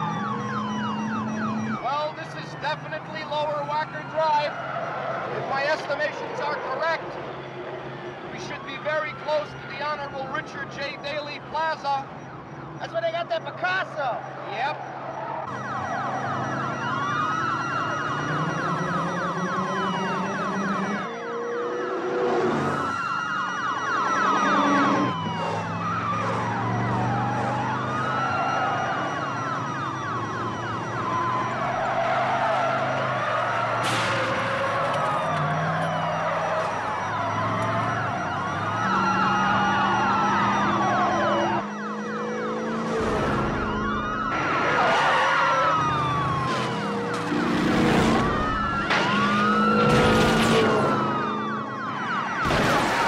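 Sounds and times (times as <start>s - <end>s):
sirens wailing: 0.0s - 53.0s.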